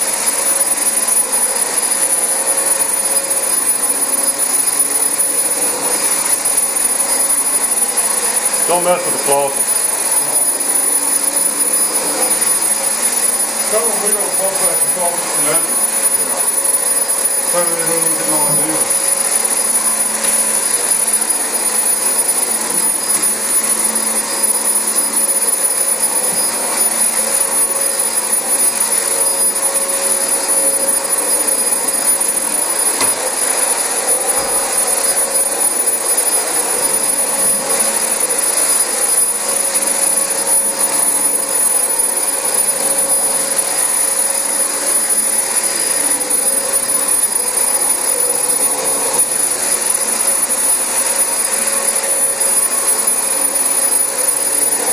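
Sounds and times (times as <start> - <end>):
vacuum cleaner running on carpet: 0.0 - 54.9.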